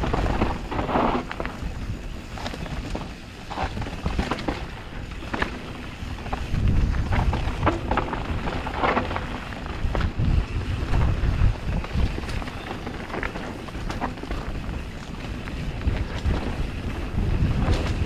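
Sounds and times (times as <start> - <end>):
bike rattling over ground: 0.0 - 18.0
wind buffeting microphone: 0.0 - 18.0.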